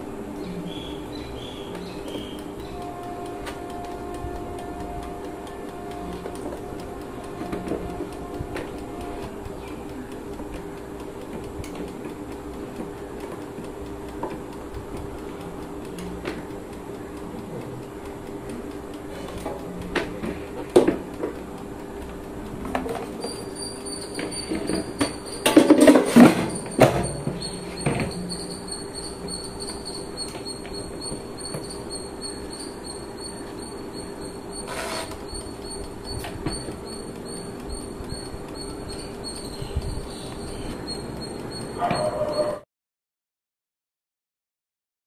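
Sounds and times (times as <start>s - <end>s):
air fryer high whine: 0.0s - 42.6s.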